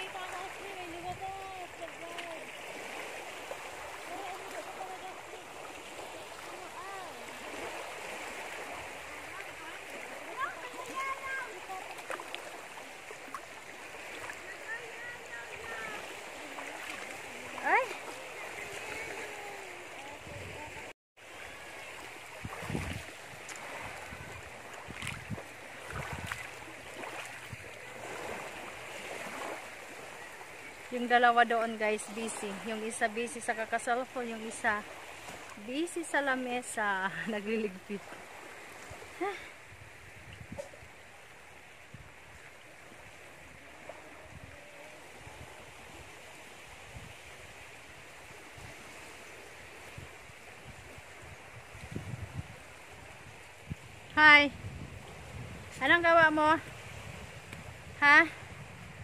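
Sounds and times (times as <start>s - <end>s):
seaside noise: 0.0s - 59.0s
seawater lapping at shore: 0.0s - 59.0s
wind gusting on microphone: 0.0s - 59.0s.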